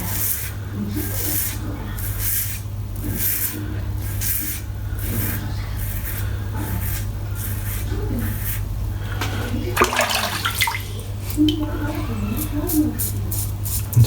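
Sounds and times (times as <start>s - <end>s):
razor scraping through stubble: 0.0s - 9.5s, 11.9s - 14.0s.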